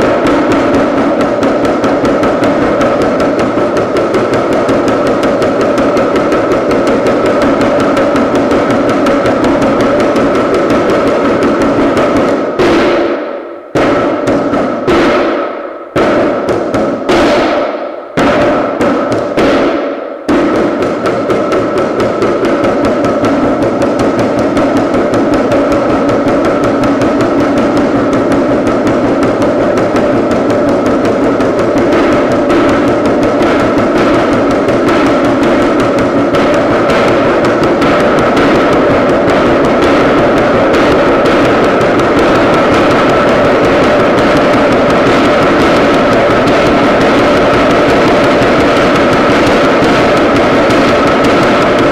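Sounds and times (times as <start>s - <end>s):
frame drum beating: 0.0s - 51.9s.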